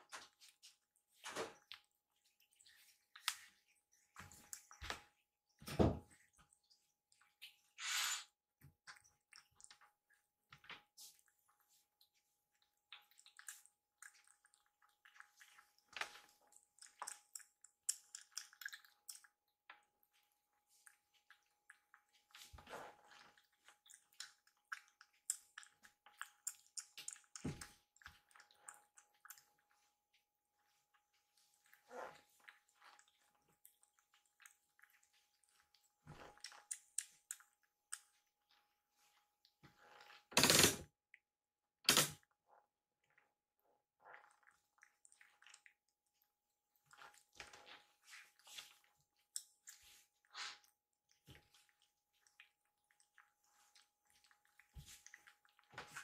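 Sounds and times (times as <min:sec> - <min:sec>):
kittens eating wet smacks: 0:00.0 - 0:41.2, 0:44.0 - 0:56.0.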